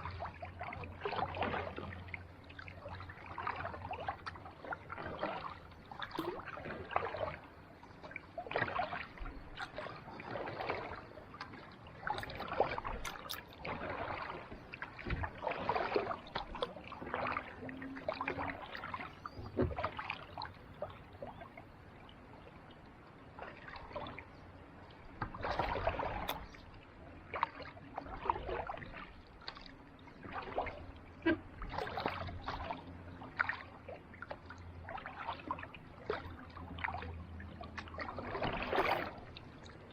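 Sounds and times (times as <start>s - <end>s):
paddle splashes and drips: 0.0s - 39.9s.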